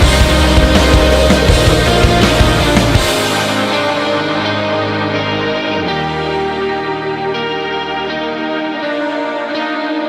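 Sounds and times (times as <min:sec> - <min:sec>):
rock music with heavy drums: 0:00.0 - 0:09.1
sustained tones: 0:00.0 - 0:10.0.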